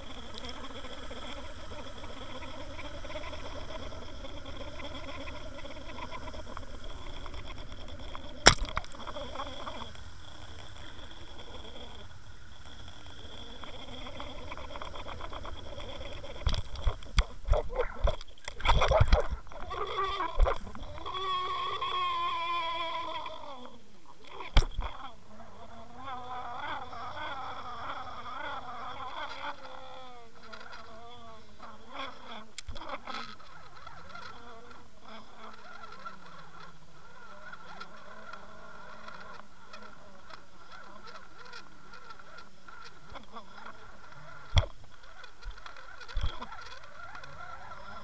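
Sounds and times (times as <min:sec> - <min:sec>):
underwater hum and whine: 0:00.0 - 0:48.0.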